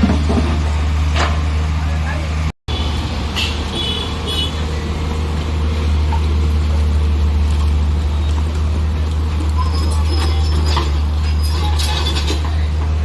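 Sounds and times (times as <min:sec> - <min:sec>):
heavy diesel engine humming: 0:00.0 - 0:13.0.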